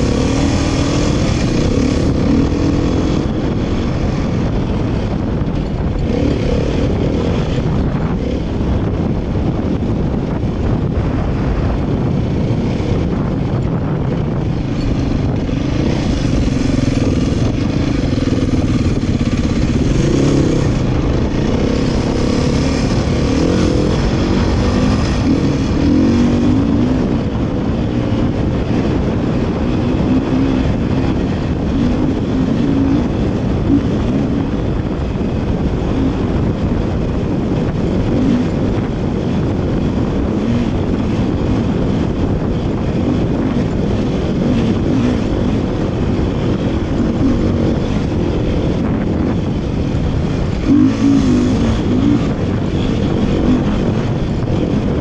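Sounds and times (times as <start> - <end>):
dirt bike engine revving: 0.0 - 55.0
wind and ground noise: 0.0 - 55.0.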